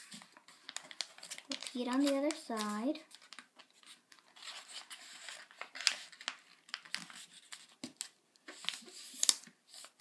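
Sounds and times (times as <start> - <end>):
paper rustling and folding: 0.0 - 10.0.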